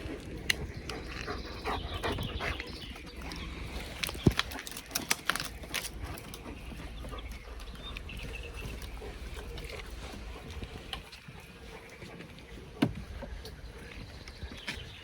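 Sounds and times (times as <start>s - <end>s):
wind on microphone: 0.0s - 4.7s, 6.0s - 15.0s
footsteps on forest floor: 0.0s - 15.0s.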